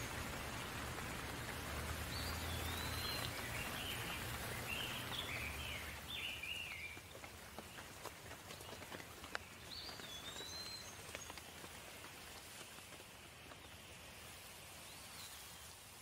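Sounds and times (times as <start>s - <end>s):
light rain: 0.0s - 16.0s.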